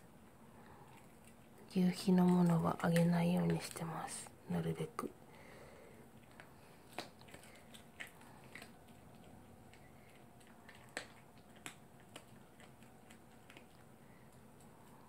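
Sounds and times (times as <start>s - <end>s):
dog crunching food: 0.2s - 4.3s, 5.8s - 15.0s.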